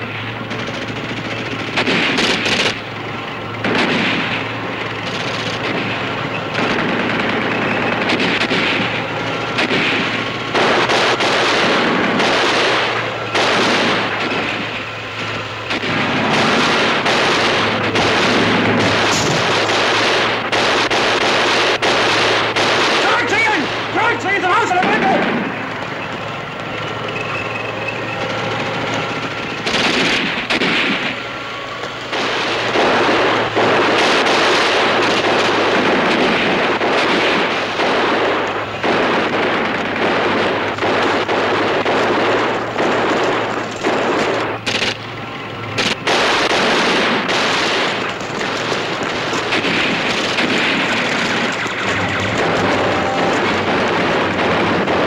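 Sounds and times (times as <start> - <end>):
machine-gun and rifle fire: 0.0 - 31.4, 32.0 - 55.0.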